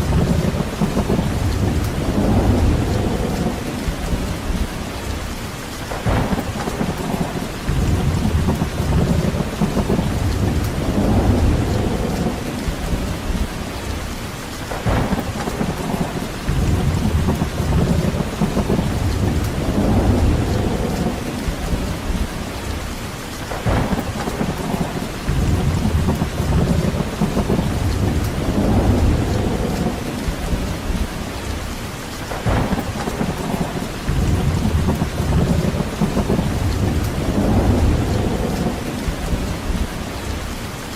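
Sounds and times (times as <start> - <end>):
rolling thunder with sharp crack: 0.0 - 40.6
steady rain: 0.0 - 40.9.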